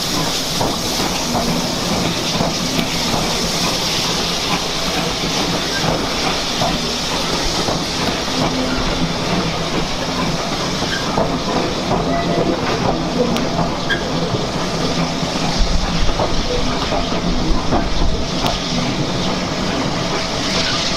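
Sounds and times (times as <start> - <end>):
hiss of steam: 0.0 - 20.9
rumble of wheels on track: 0.0 - 20.9.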